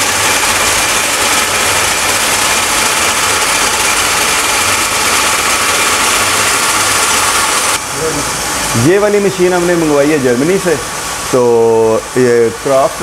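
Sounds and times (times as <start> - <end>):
metal lathe machining: 0.0 - 13.0.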